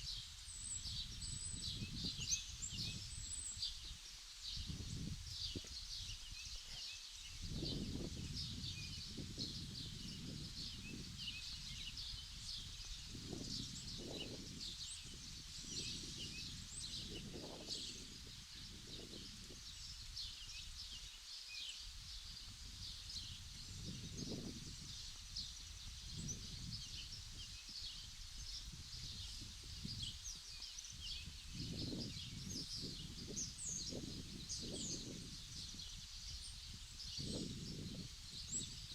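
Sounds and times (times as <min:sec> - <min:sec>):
wind gusts on microphone: 0:00.0 - 0:21.0, 0:21.9 - 0:38.9
small birds chirping: 0:00.0 - 0:38.9.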